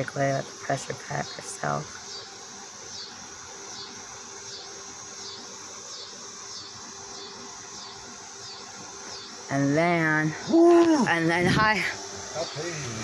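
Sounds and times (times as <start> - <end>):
insect chirping: 0.0 - 13.0
steady hiss: 0.0 - 13.0.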